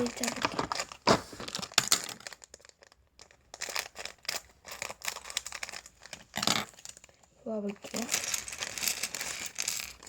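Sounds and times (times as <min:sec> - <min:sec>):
scissors cutting crinkly packaging: 0:00.0 - 0:10.0.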